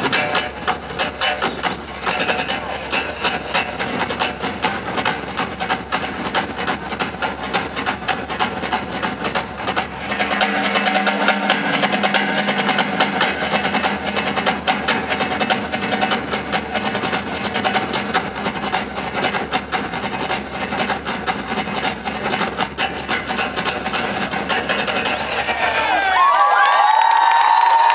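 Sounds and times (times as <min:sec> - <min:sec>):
drummers playing fast beats: 0:00.0 - 0:27.9
steady held tones: 0:00.0 - 0:27.9.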